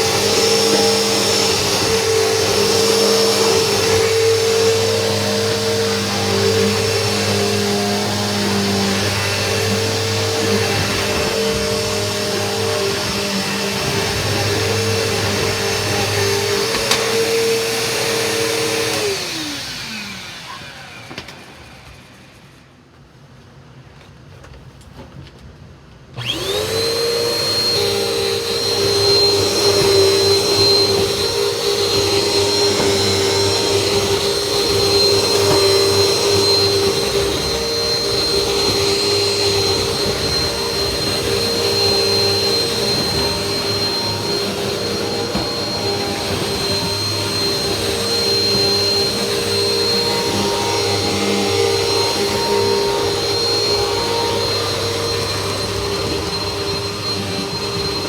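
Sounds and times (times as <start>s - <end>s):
vacuum cleaner running: 0.0s - 23.0s, 26.2s - 58.0s.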